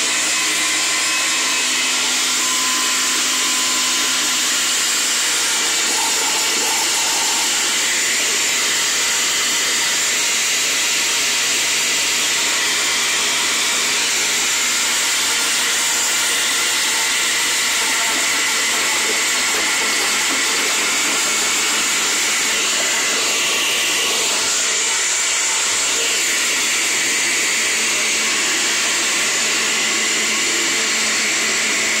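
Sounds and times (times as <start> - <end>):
blender running: 0.0 - 32.0.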